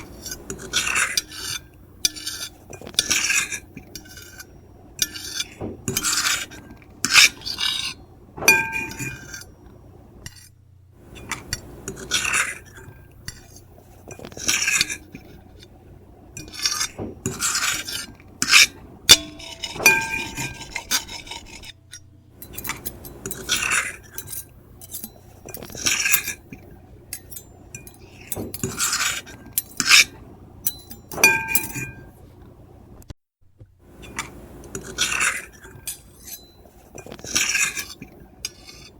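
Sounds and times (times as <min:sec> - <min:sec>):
fork and knife scratching a plate: 0:00.0 - 0:09.6, 0:10.2 - 0:15.7, 0:16.4 - 0:32.1, 0:34.0 - 0:38.9.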